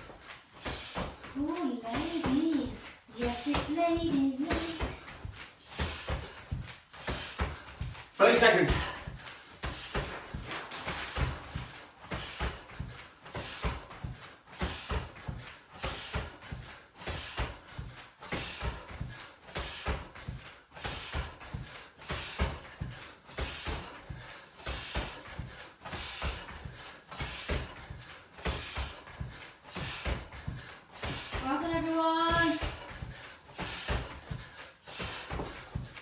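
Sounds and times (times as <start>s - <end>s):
feet landing on rubber floor: 0.0s - 36.0s
person breathing hard: 0.0s - 36.0s.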